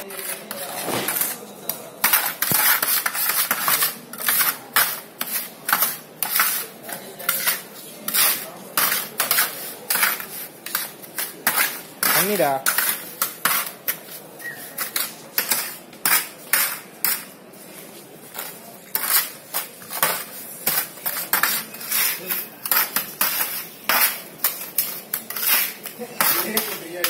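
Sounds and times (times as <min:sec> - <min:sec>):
trowels scraping mortar on metal: 0:00.0 - 0:27.0.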